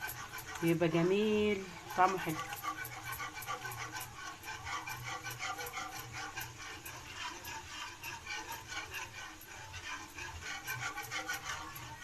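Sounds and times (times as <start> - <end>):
wire whisk beating sauce in pot: 0.0 - 12.0.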